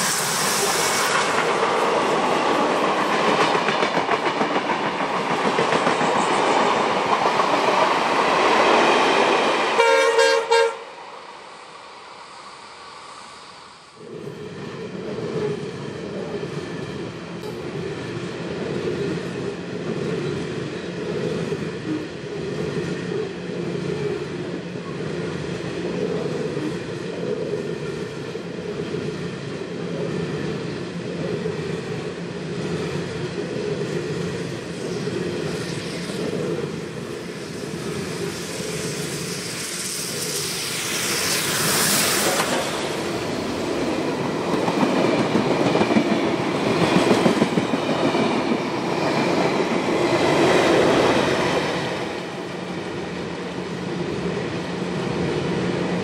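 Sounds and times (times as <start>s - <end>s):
steam locomotive passing: 0.0s - 56.0s
train carriages passing: 0.0s - 56.0s.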